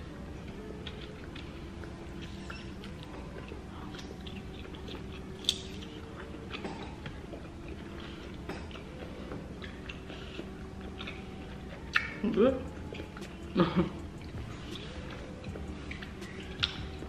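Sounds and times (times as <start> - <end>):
low steady hum: 0.0 - 17.0
chewing and mouth smacks: 0.4 - 17.0.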